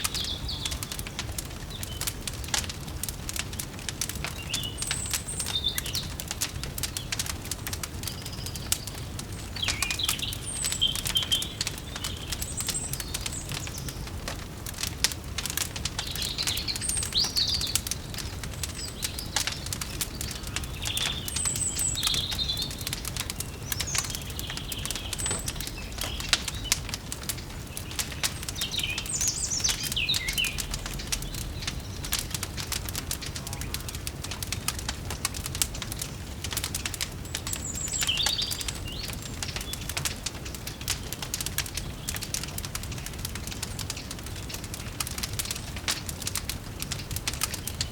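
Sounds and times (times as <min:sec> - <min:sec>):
songbirds chirping: 0:00.0 - 0:47.9
wood fire crackling: 0:00.0 - 0:47.9.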